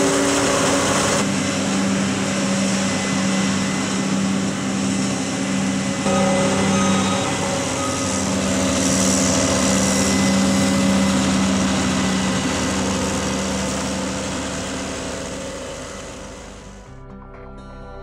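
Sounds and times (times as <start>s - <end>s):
diesel farm machinery drone: 0.0s - 17.2s.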